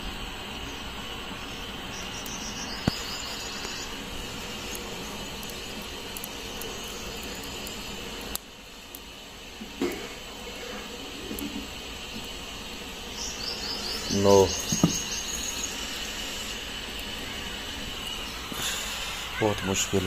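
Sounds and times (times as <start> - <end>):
insects buzzing: 0.0 - 20.0
outdoor background hiss: 0.0 - 20.0.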